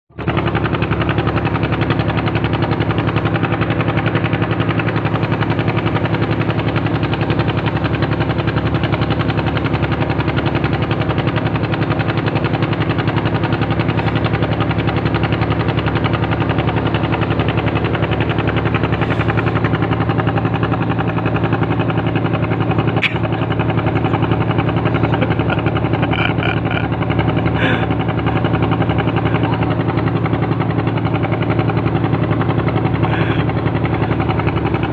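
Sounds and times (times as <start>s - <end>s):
ship engine idling: 0.1s - 34.9s.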